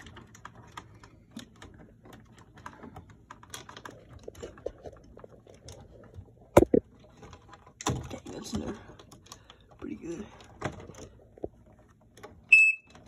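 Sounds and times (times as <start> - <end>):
small plastic clicks and rattles: 0.0 - 13.0.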